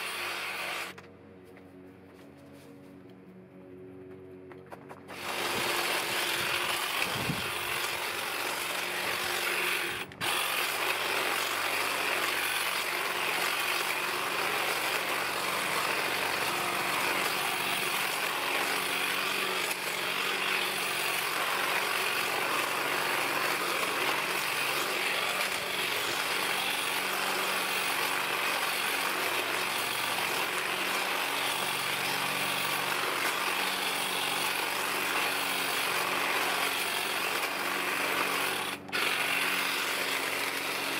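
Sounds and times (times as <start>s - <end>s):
hedge trimmer cutting hedge: 0.0s - 1.0s, 5.1s - 40.9s.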